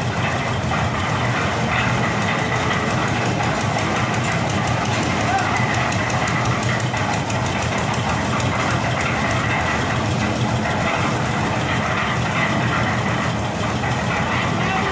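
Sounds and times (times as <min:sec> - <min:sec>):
concrete mixer engine running: 0:00.0 - 0:14.9.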